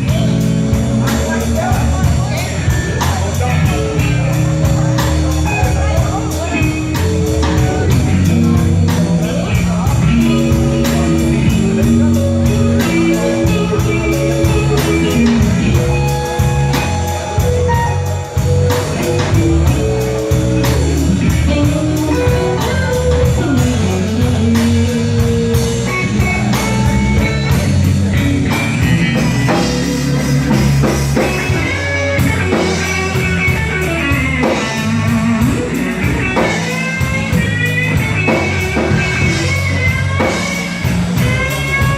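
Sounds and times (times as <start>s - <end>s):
drum kit: 0.0s - 41.9s
electric bass: 0.0s - 41.9s
electric guitar lead lines: 0.0s - 41.9s.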